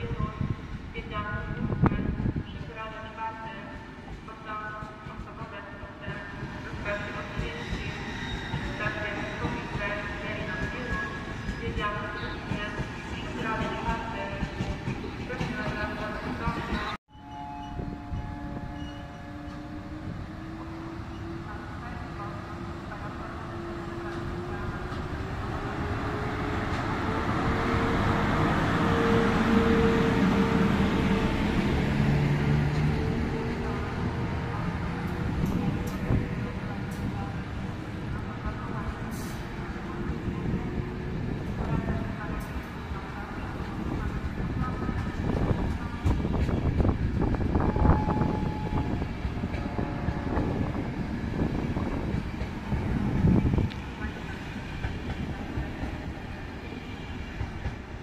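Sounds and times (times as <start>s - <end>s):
train running: 3.9s - 58.0s.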